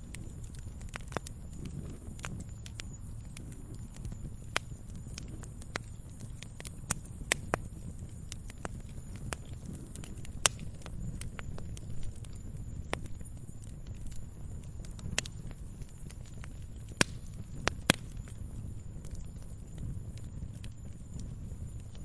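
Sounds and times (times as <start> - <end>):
campfire crackling and popping: 0.0 - 22.0
low rumble of flames: 0.0 - 22.0.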